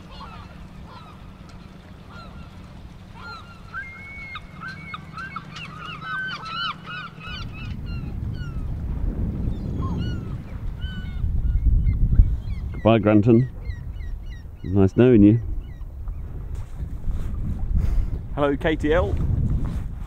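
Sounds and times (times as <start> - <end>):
gulls calling: 0.0 - 16.8
wind rumble on microphone: 0.0 - 20.0.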